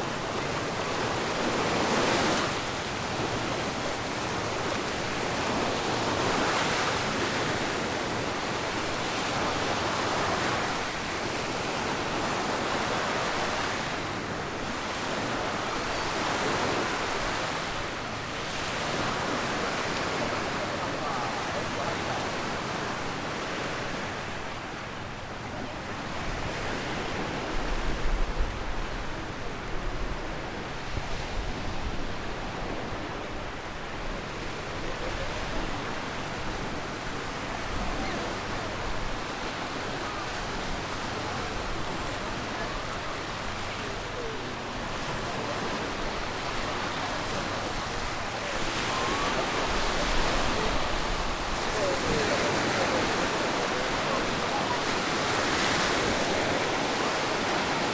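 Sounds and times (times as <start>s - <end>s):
small waves washing onto sand: 0.0s - 57.9s.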